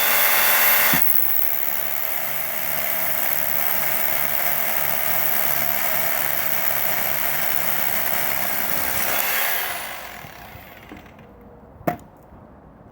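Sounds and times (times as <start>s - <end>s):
motor spinning down: 0.0s - 11.2s
rotary hammer drilling: 0.0s - 11.2s.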